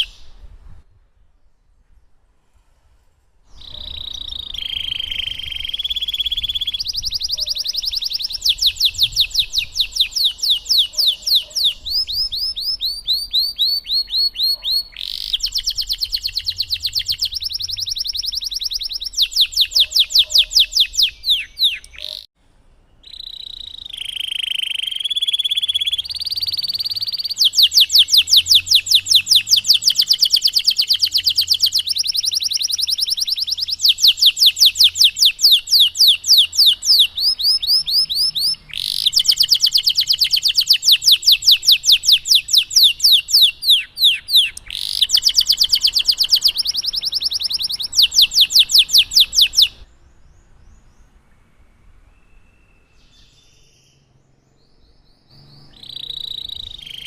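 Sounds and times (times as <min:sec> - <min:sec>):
canary singing: 0:00.0 - 0:00.4, 0:03.5 - 0:22.3, 0:23.0 - 0:49.9, 0:54.9 - 0:57.0.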